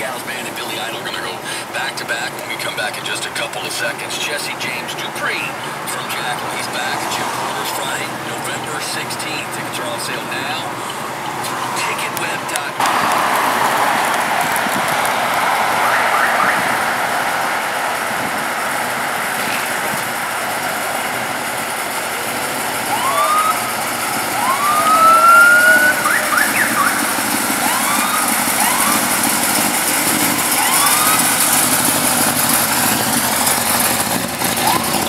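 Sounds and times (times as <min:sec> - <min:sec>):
vehicle and road noise: 0:00.0 - 0:35.0
siren whooping: 0:06.0 - 0:35.0.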